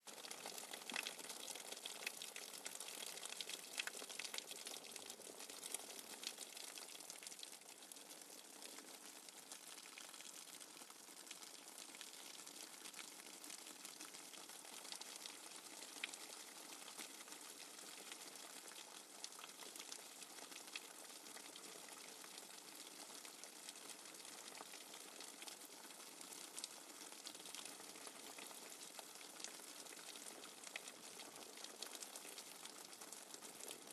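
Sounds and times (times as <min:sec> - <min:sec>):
rainwater dripping fast: 0:00.1 - 0:33.9.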